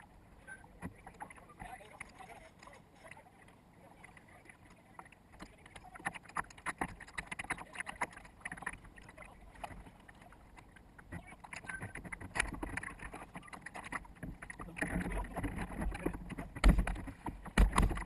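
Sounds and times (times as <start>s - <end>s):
water splashing against boat: 0.0s - 18.0s.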